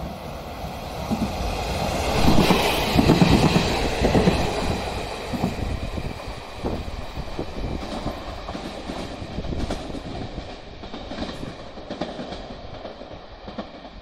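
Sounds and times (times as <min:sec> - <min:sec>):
train wheels clattering on rails: 0:02.1 - 0:14.0.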